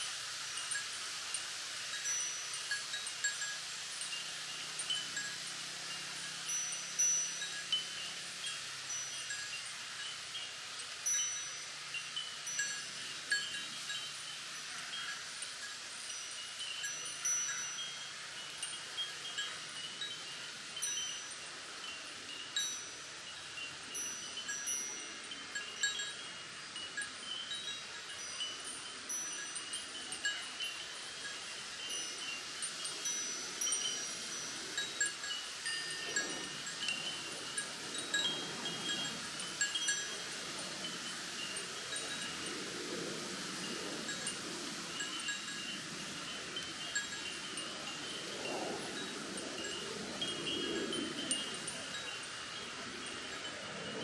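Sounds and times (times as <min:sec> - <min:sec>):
wind chimes tinkling: 0:00.0 - 0:54.0
wind rustling bamboo leaves: 0:00.0 - 0:54.0.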